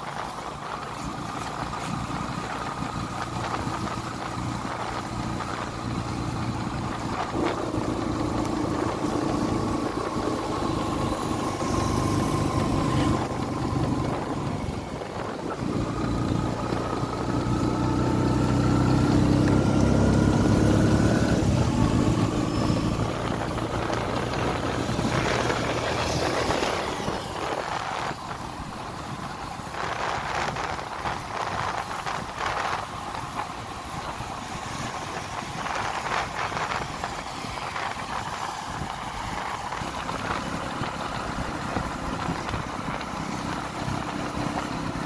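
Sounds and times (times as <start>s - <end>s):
small motorcycle engine running: 0.0s - 45.0s
wind and tyres on wet road: 0.0s - 45.0s.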